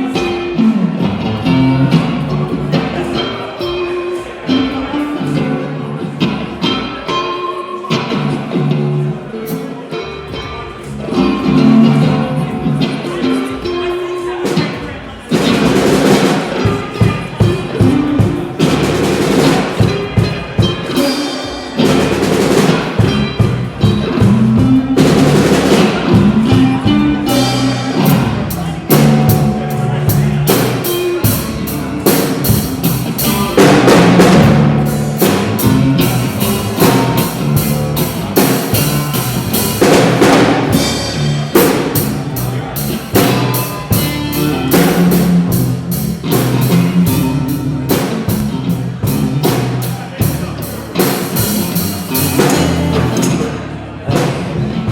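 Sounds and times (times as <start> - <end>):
drum kit beat: 0.0 - 54.9
pitched instrumental melody: 0.0 - 54.9.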